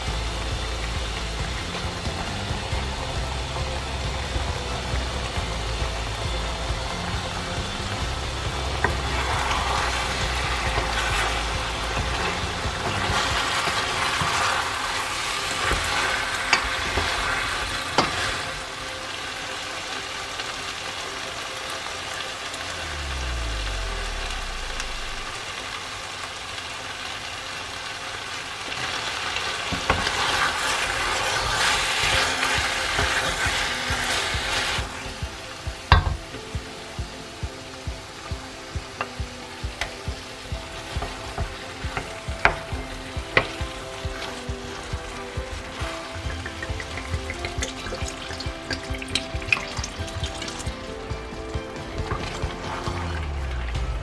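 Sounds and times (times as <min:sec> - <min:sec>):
meat sizzling in a pot: 0:00.0 - 0:54.0.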